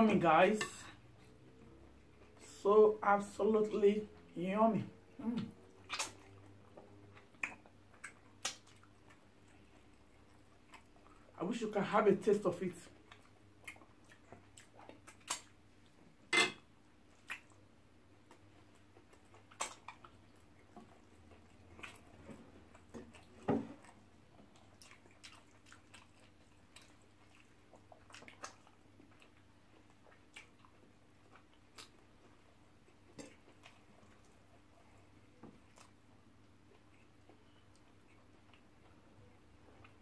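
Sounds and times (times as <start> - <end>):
faint steady hum: 0.0 - 40.0
chewing and lip smacks: 5.4 - 11.4, 12.9 - 16.2, 17.0 - 40.0.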